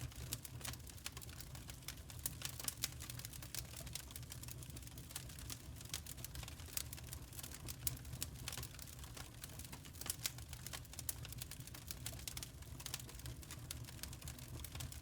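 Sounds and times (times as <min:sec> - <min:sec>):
low rumble of burning logs: 0:00.0 - 0:15.0
wood fire snapping and popping: 0:00.0 - 0:15.0.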